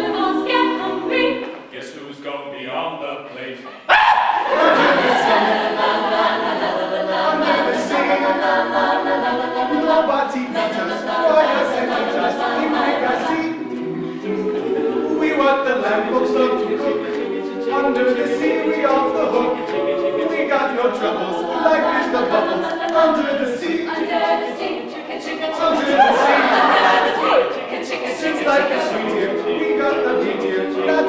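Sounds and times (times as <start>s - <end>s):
a cappella group singing: 0.0s - 2.0s, 2.9s - 31.0s.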